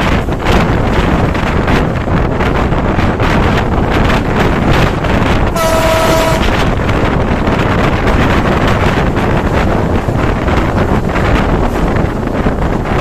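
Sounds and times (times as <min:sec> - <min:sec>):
train rumbling at speed: 0:00.0 - 0:13.0
wind buffeting microphone: 0:00.0 - 0:13.0.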